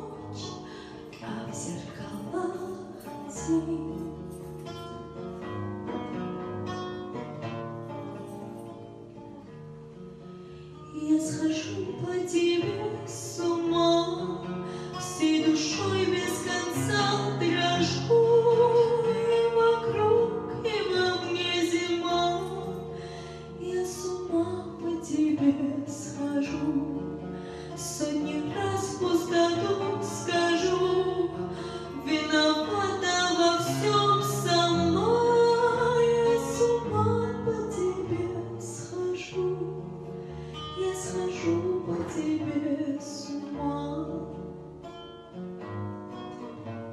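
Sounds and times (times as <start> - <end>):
woman singing a ballad: 0.0 - 5.0, 10.8 - 44.5
acoustic guitar: 0.0 - 46.9.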